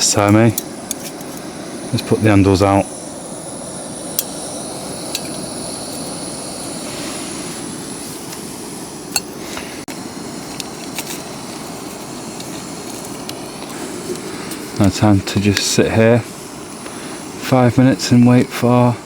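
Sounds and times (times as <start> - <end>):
gas stove burner roaring hiss: 0.0 - 19.0.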